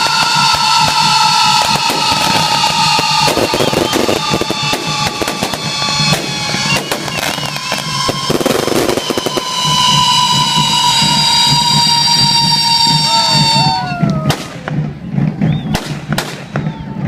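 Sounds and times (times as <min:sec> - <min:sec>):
drumming: 0:00.0 - 0:17.0
fireworks crackling: 0:00.0 - 0:17.0
high whistling fireworks: 0:00.0 - 0:17.0.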